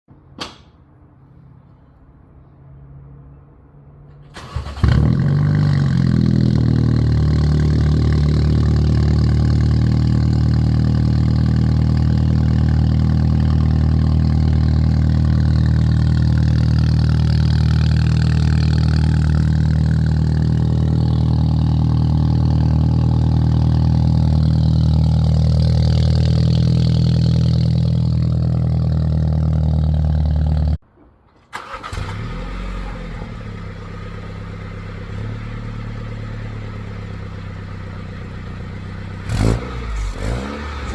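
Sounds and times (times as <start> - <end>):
car engine starting and idling: 4.1 - 30.8, 31.4 - 40.9.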